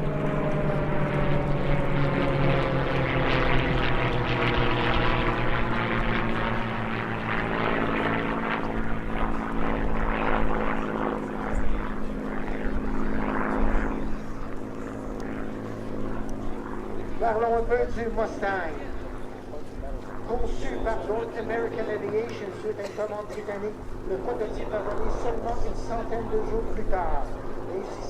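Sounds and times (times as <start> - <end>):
propeller plane engines droning: 0.0 - 28.0.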